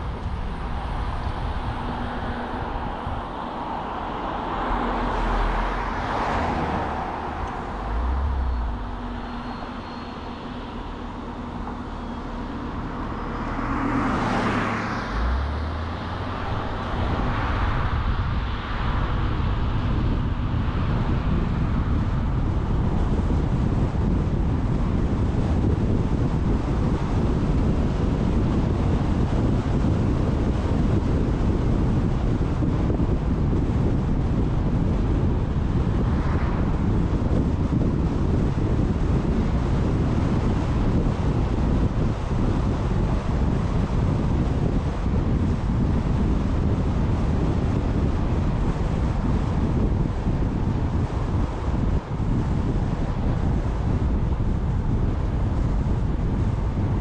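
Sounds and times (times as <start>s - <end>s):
car road and wind noise: 0.0s - 57.0s
vehicles swishing past: 0.0s - 57.0s.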